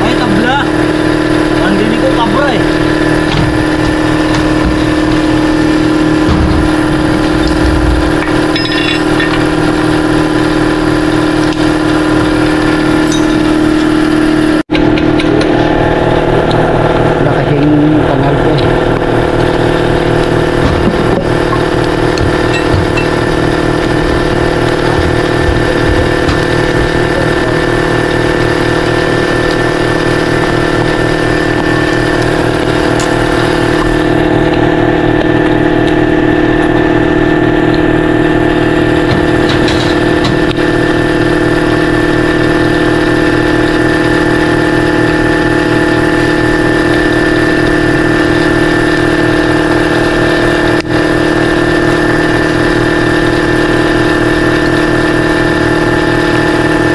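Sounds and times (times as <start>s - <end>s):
motor-driven machine running: 0.0s - 56.9s.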